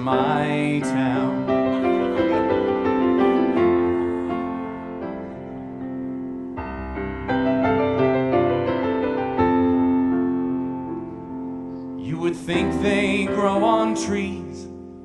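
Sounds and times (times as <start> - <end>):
piano playing slow ballad: 0.0 - 15.0.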